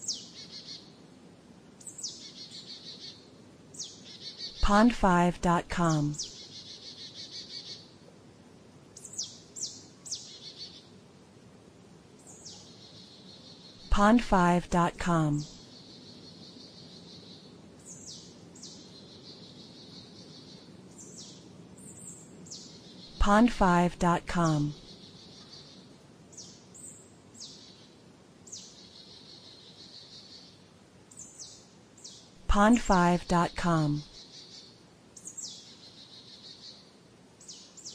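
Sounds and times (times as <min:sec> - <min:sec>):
songbirds singing trills: 0:00.0 - 0:01.0, 0:01.8 - 0:05.0, 0:05.8 - 0:08.0, 0:09.0 - 0:11.0, 0:12.2 - 0:13.9, 0:15.3 - 0:23.3, 0:24.5 - 0:33.2, 0:33.9 - 0:37.9
faint forest background: 0:00.0 - 0:37.9.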